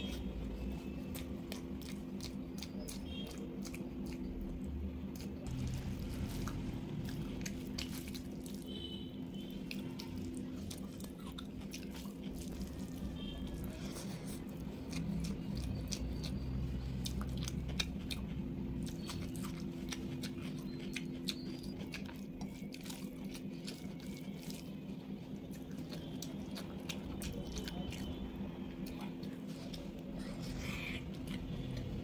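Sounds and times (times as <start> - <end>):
person chewing with wet clicks: 0.0 - 32.0
steady low hum: 0.0 - 32.0.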